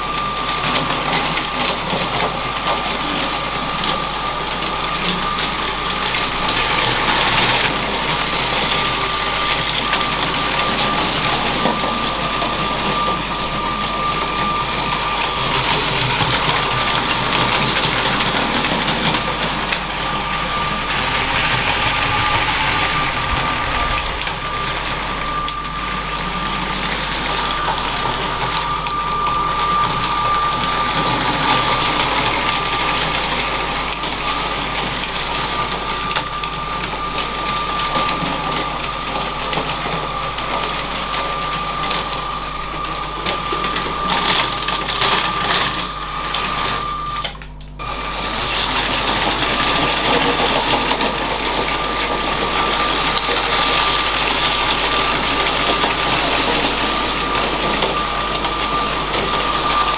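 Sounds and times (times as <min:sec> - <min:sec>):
toy train motor whine: 0:00.0 - 0:59.9
wheels rolling on plastic track: 0:00.4 - 0:59.9.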